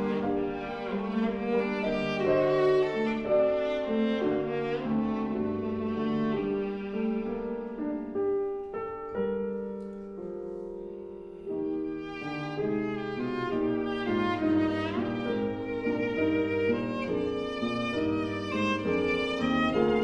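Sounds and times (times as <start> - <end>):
viola playing: 0.0 - 8.4, 10.8 - 20.0
piano chords: 0.0 - 20.0.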